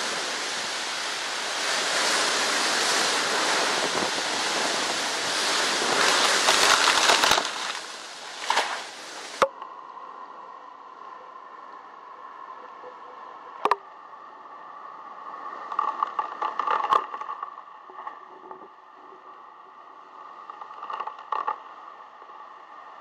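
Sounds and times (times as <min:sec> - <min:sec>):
storm wind and rain: 0:00.0 - 0:09.9, 0:13.6 - 0:23.0.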